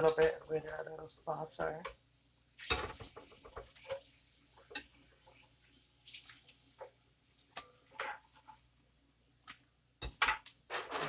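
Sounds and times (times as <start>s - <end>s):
hot grease sizzling and crackling: 0.0s - 11.0s.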